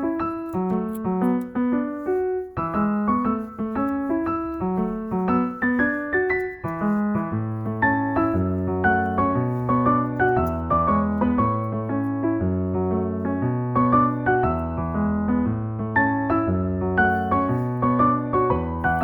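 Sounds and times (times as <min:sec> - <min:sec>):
gentle piano tune: 0:00.0 - 0:19.0.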